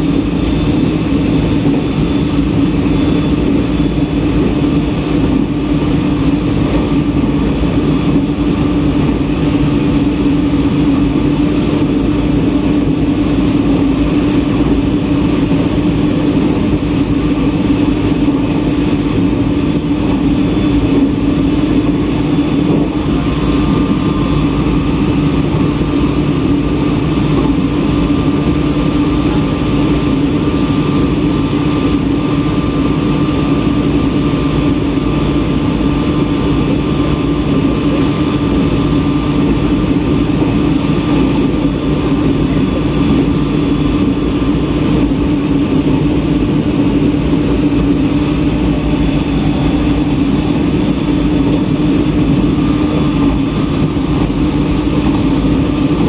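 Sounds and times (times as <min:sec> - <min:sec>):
electric train running drone: 0:00.0 - 0:56.0.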